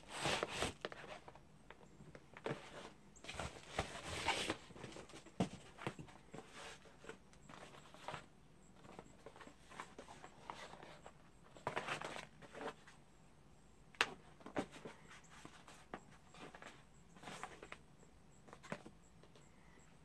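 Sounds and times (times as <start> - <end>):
cardboard rustling: 0.0 - 13.0, 14.0 - 17.8.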